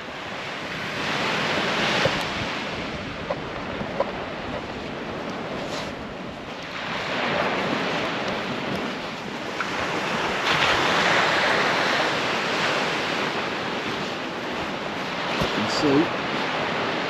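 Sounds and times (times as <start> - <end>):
sea surf breaking: 0.0 - 17.0.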